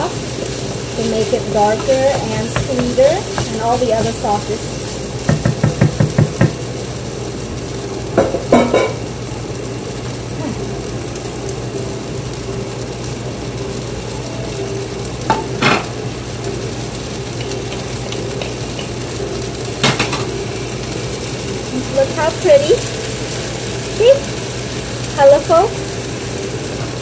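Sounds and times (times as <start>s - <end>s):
rice sizzling in a pan: 0.0s - 27.0s.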